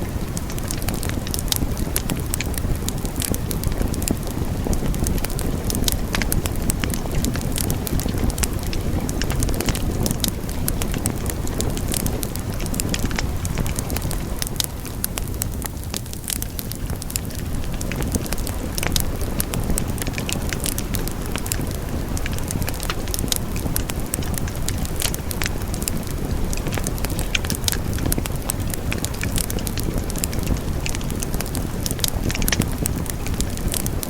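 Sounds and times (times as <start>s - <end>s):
flames rumbling: 0.0s - 34.0s
logs crackling and popping: 0.0s - 34.0s.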